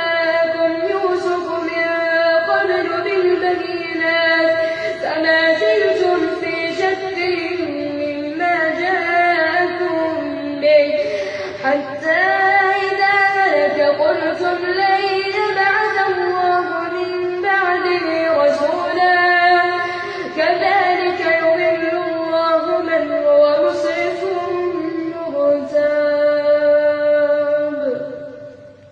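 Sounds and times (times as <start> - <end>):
person reciting melodically: 0.0 - 28.8.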